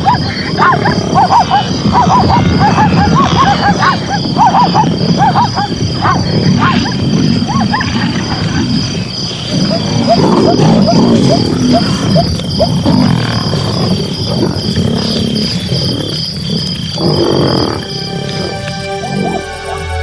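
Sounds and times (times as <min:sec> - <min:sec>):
lions growling and snarling: 0:00.0 - 0:20.0.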